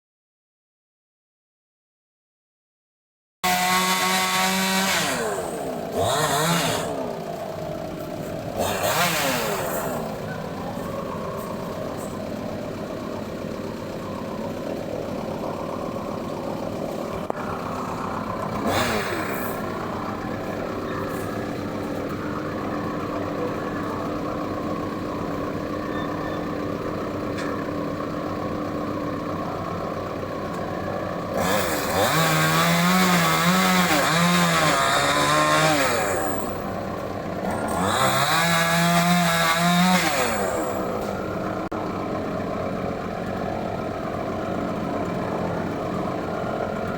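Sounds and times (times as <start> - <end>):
chainsaw idling and revving: 3.4 - 46.9.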